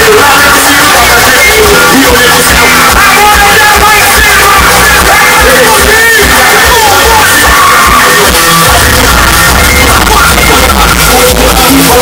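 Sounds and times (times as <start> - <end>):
heavy bass line: 0.0 - 12.0
loud music with singing: 0.0 - 12.0.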